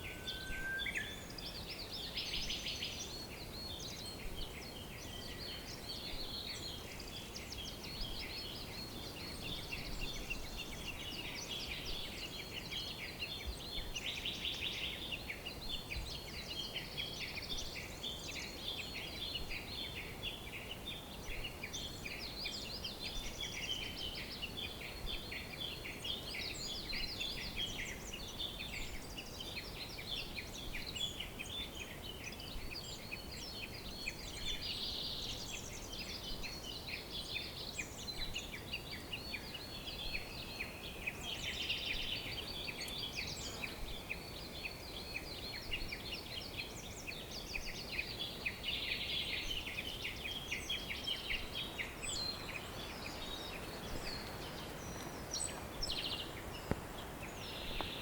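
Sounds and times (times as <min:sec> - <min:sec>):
birds chirping and singing: 0:00.0 - 0:58.0
faint background hiss: 0:00.0 - 0:58.0.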